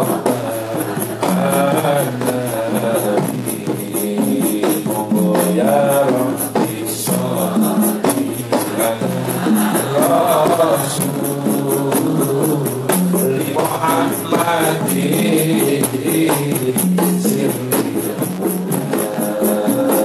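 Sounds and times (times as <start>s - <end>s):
frame drums and jingles: 0.0s - 20.0s
group devotional singing: 0.0s - 20.0s.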